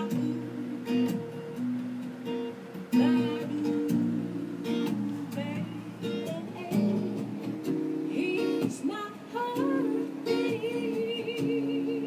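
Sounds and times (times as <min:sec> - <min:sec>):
guitar strumming chords: 0:00.0 - 0:12.0.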